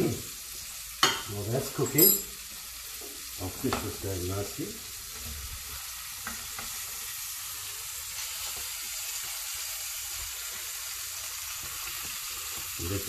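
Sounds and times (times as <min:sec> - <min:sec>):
fish frying in hot oil: 0:00.0 - 0:13.0.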